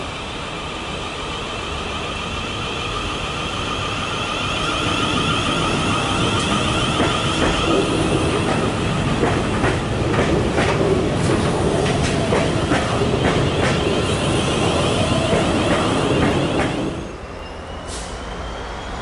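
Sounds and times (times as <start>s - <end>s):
freight train rolling: 0.0s - 19.0s.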